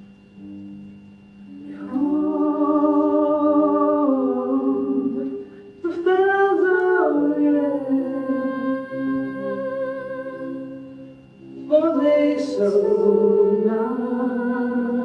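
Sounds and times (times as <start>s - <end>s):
person singing long notes: 1.5s - 15.0s.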